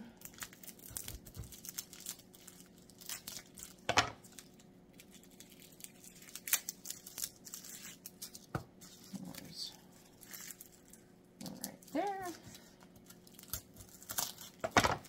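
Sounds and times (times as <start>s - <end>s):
garlic skins crinkling and tearing: 0.1s - 15.0s.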